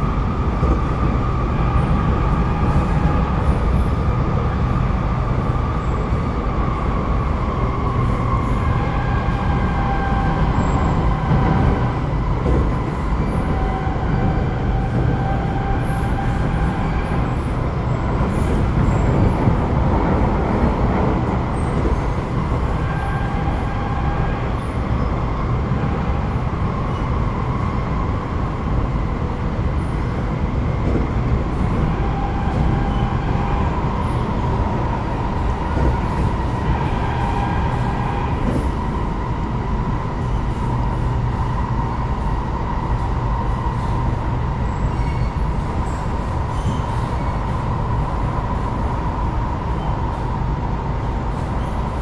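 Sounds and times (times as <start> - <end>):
steady train whine: 0.0 - 52.0
train wheels rumbling on rail: 0.0 - 52.0.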